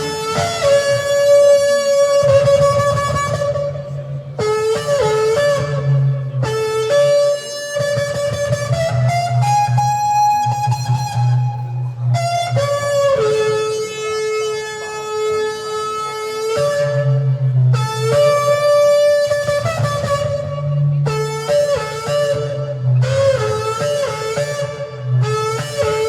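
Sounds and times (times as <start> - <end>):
guitar-like accompaniment: 0.0 - 26.0.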